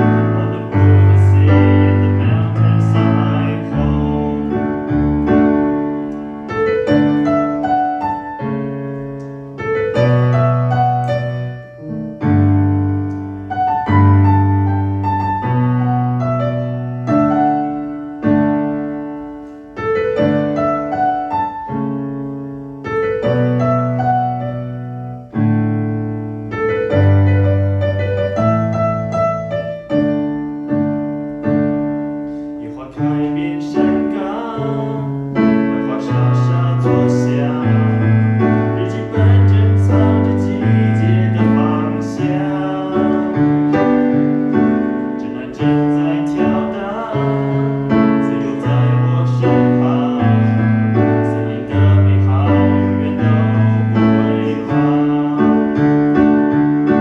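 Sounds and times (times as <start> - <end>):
piano playing chords: 0.0 - 57.0.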